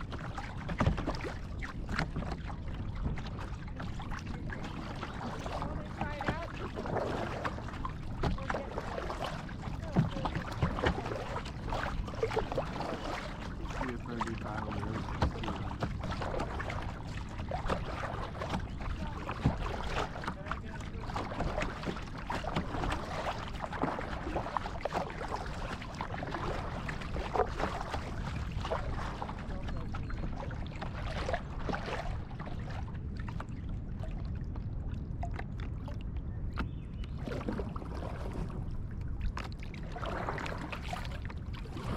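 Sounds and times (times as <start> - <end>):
paddle splashing in water: 0.0 - 41.9
water dripping and lapping: 0.0 - 41.9.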